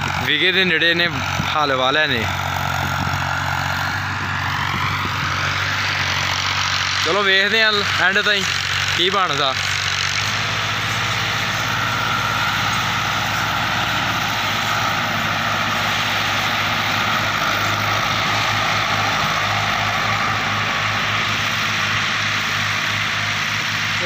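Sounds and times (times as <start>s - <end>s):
tractor engines droning: 0.0s - 24.0s.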